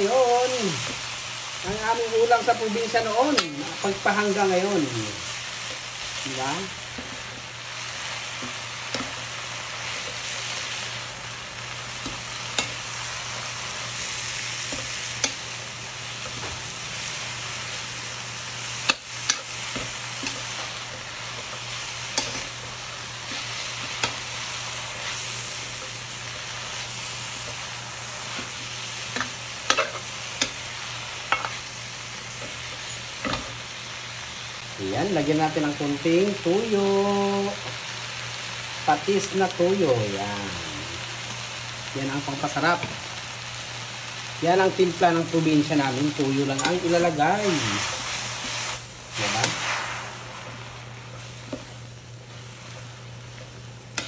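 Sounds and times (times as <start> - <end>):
greens sizzling in a wok: 0.0 - 54.0.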